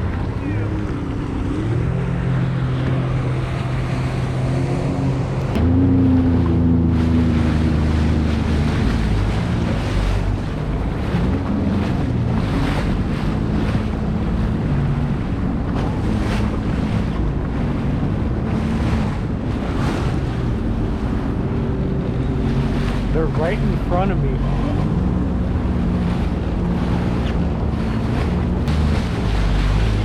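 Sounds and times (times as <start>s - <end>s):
jet ski engine drone: 0.0s - 30.0s
water splashing: 0.0s - 30.0s.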